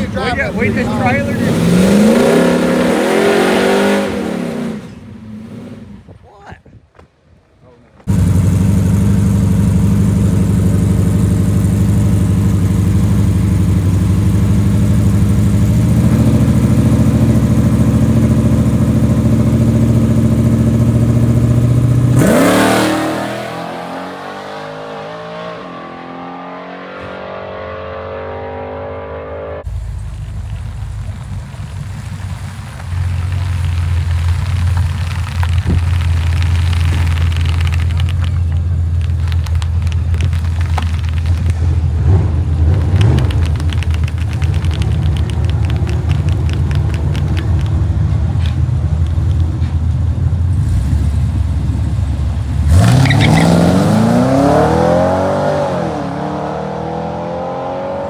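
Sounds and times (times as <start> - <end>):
truck engine at full throttle: 0.0 - 6.1, 8.1 - 25.5, 29.6 - 58.0.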